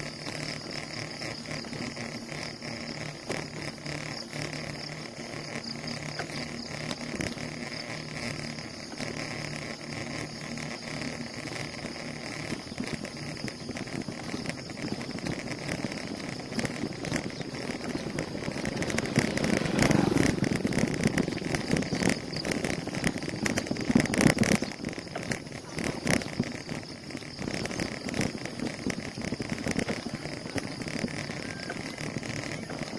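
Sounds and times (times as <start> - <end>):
bicycle road noise: 0.0 - 32.9
motor traffic passing: 0.0 - 32.9
steady engine hum: 0.0 - 32.9.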